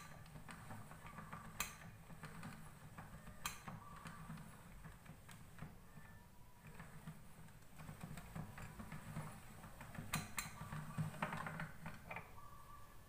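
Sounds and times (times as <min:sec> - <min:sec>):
hand-cranked pasta roller clicking: 0:00.0 - 0:12.2.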